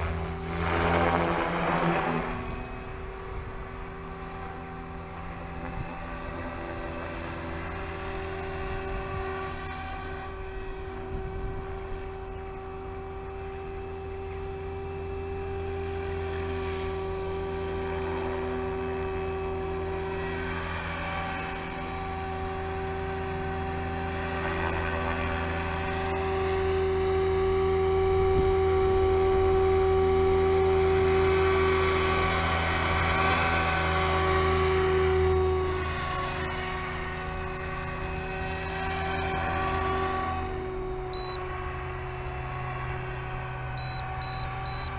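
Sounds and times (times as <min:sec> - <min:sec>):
helicopter motor and rotor whine: 0:00.0 - 0:44.9.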